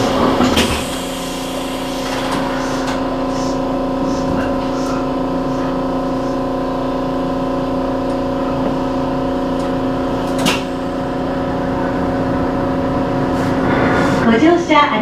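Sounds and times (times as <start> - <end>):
train traction motors humming: 0.0 - 15.0
wheels rumbling on rails: 0.0 - 15.0.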